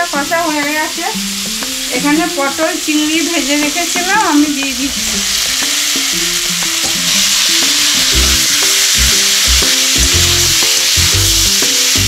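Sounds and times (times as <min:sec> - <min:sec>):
background music: 0:00.0 - 0:12.0
food sizzling in hot oil: 0:00.0 - 0:12.0.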